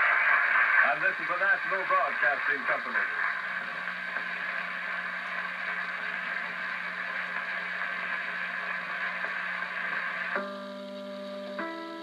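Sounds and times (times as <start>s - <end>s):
low steady hum: 0.0s - 12.0s
radio static hiss: 0.0s - 12.0s.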